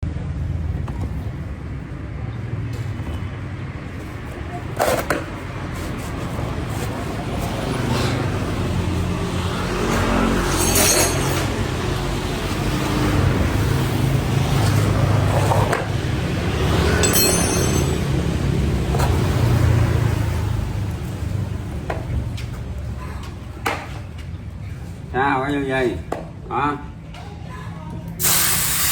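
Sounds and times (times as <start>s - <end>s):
engine rumbling: 0.0s - 25.2s.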